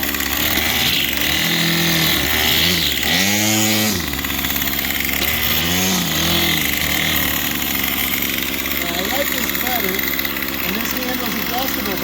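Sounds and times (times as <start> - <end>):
string trimmer engine revving: 0.0 - 12.0.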